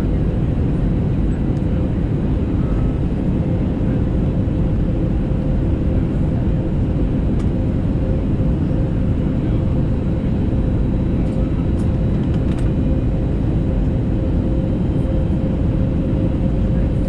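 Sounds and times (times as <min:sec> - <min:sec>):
airplane engine and airflow roar: 0:00.0 - 0:17.0.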